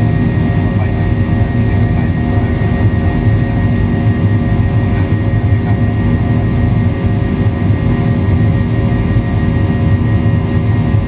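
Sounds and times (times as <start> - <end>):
jet engine drone in cabin: 0.0 - 11.0
steady hums: 0.0 - 11.0.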